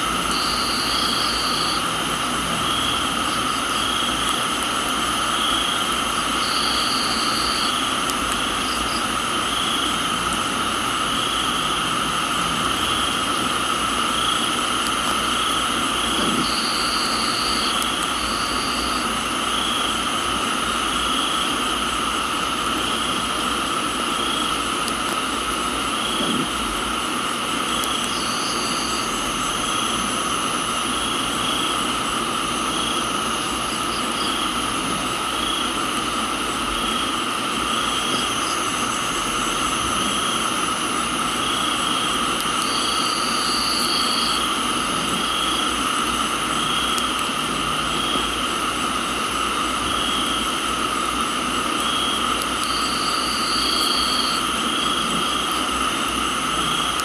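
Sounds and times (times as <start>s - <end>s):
crickets and insects trilling: 0.0s - 57.0s
rain hiss: 0.0s - 57.0s.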